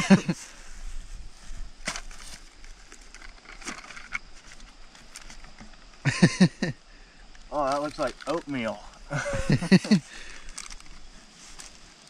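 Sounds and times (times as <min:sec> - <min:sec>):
rustling in grass: 0:00.0 - 0:06.6, 0:07.4 - 0:12.0.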